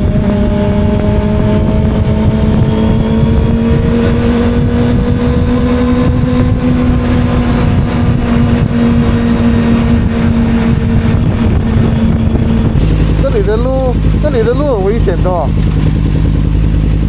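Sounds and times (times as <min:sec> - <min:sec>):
motorcycle engine cruising: 0:00.0 - 0:17.0
wind rumble on microphone: 0:00.0 - 0:17.0.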